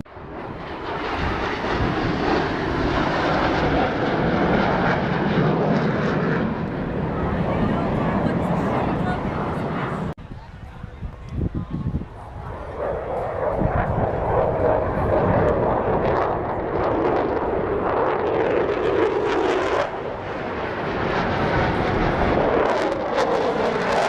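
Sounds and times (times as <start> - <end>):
airplane engine roar flying past: 0.1 - 24.0.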